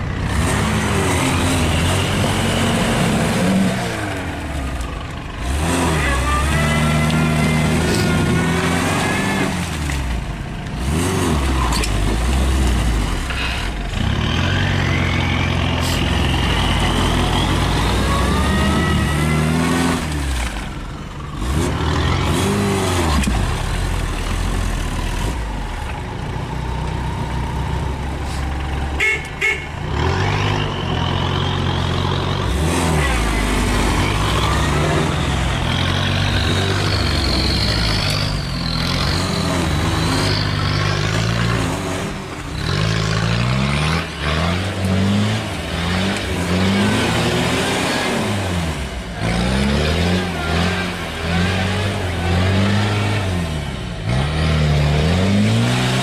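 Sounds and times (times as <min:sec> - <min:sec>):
car engine revving: 0:00.0 - 0:26.1, 0:28.2 - 0:56.0
vehicle churning through mud: 0:00.0 - 0:56.0.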